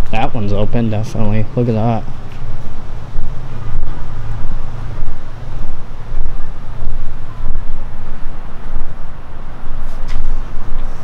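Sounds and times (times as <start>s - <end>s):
wind buffeting microphone: 2.0s - 11.0s.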